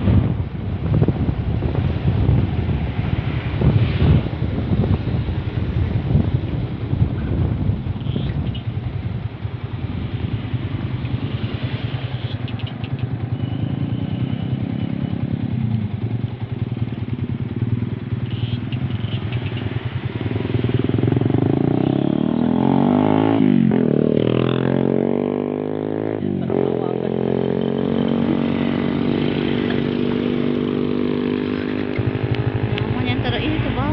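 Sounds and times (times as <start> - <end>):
motorcycle engine running: 0.0 - 33.9
road noise: 0.0 - 33.9.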